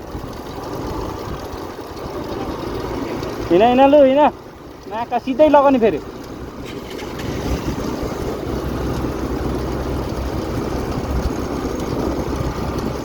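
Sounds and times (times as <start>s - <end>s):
motor scooter engine rumble: 0.0s - 13.0s.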